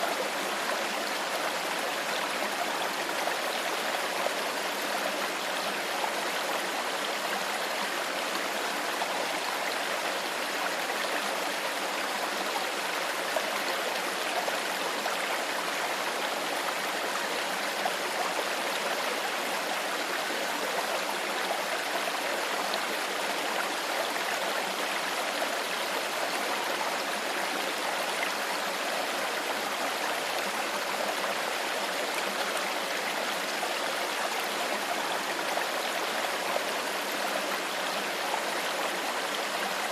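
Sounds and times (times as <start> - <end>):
stream water babbling over stones: 0.0 - 39.9.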